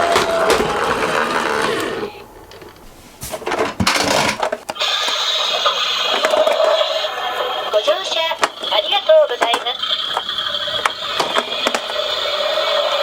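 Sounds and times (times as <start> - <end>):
toy cars rattling and whirring: 0.0 - 2.8, 3.4 - 13.0.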